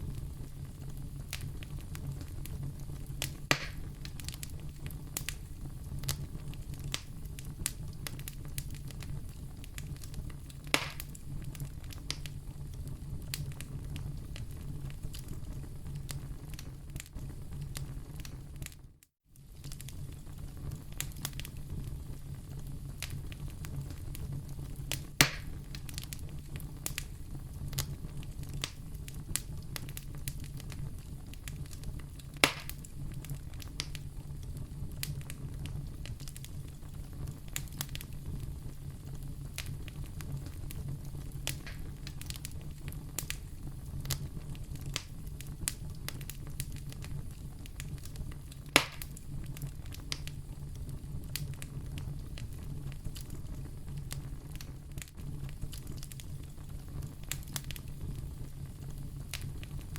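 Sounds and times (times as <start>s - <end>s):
loud pops of fire: 0.0s - 18.8s, 19.4s - 59.9s
wood fire crackling: 0.0s - 59.9s.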